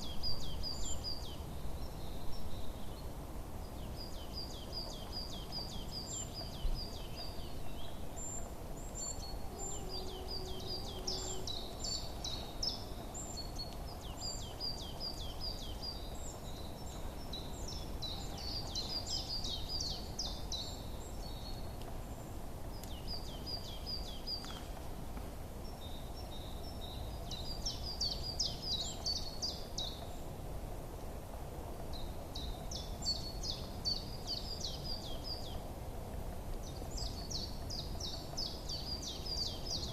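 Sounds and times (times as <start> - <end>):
songbirds chirping in trills: 0.0 - 39.9.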